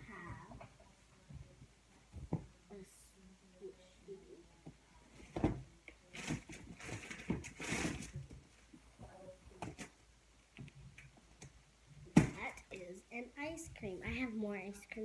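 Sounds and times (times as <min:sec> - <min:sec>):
rustling and knocking of plastic toys: 0:00.1 - 0:02.6, 0:04.6 - 0:14.4.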